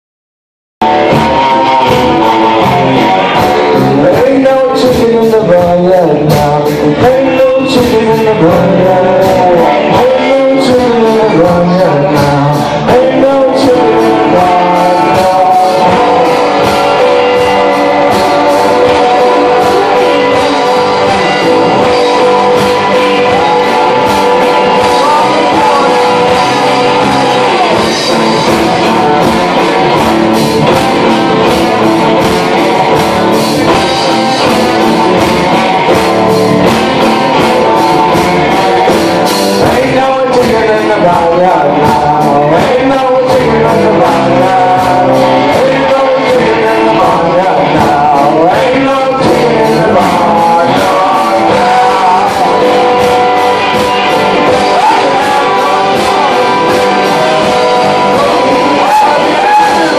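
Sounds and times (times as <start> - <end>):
drum kit beat: 0.8 - 59.9
person singing: 0.8 - 59.9
acoustic guitar: 0.9 - 59.9.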